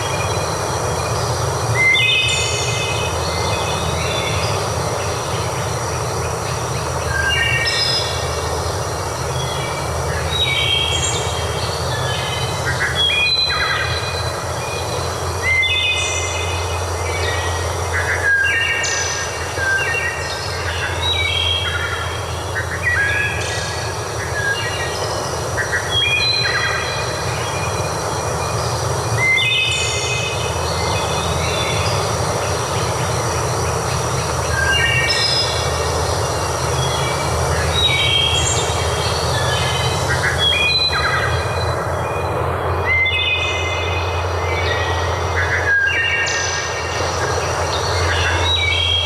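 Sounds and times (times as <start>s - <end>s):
birds whistling calls: 0.0s - 5.7s, 6.6s - 49.0s.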